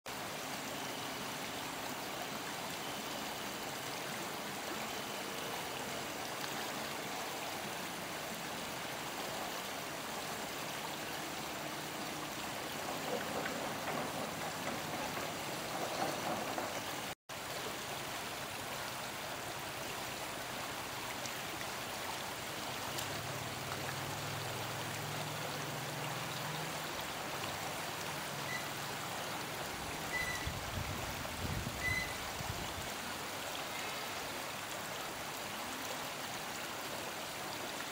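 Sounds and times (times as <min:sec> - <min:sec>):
shallow river water running: 0:00.1 - 0:37.9.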